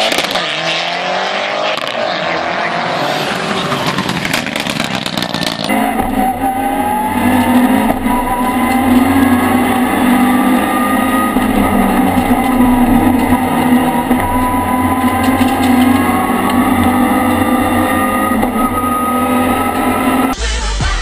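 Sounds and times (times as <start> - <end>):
race car engine accelerating: 0.0 - 20.4.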